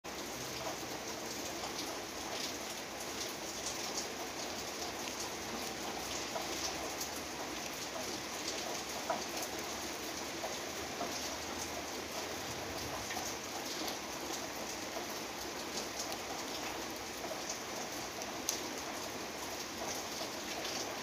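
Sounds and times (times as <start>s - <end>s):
rain on leaves: 0.1s - 21.0s.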